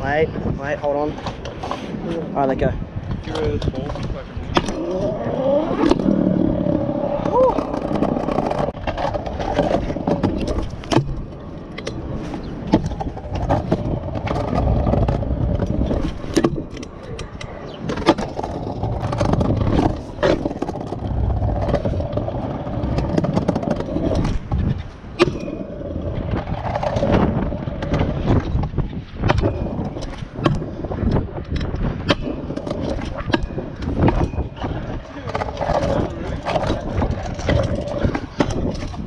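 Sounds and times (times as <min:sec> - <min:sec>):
scooter deck clacking and scraping: 0:00.0 - 0:39.0
scooter wheels rolling on pavement: 0:00.0 - 0:39.0.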